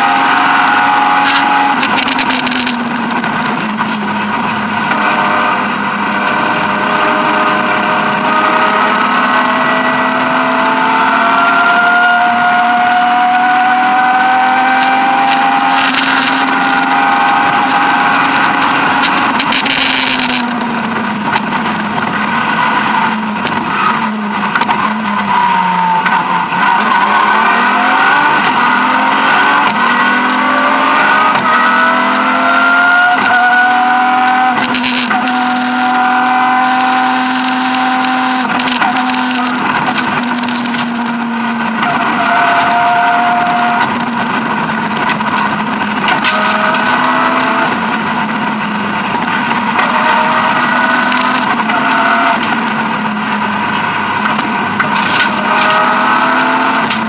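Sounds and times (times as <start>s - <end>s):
race car engine accelerating: 0.0s - 57.0s
road and tyre noise: 0.0s - 57.0s.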